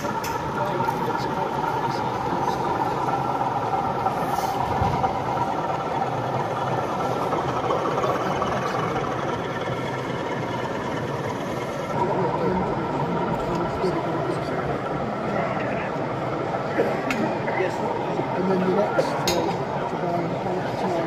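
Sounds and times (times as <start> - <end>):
exhibition hall background noise: 0.0 - 21.0
model locomotive engine drone: 0.0 - 21.0.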